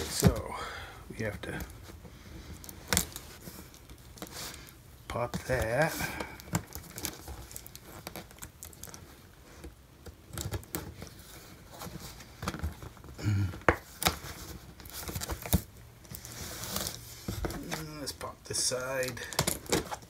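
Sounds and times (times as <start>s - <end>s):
cardboard scraping and crinkling: 1.6s - 13.2s, 13.8s - 20.0s.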